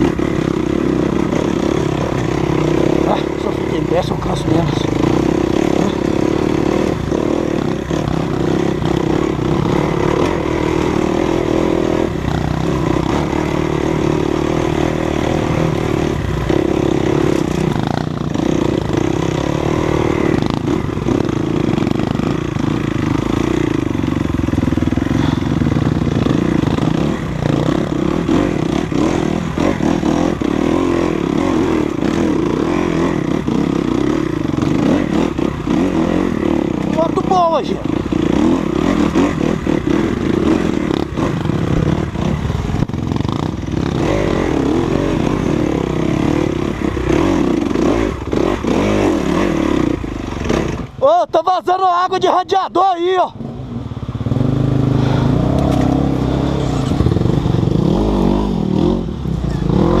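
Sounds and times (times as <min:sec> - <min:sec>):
dirt bike engine running: 0:00.0 - 1:00.0.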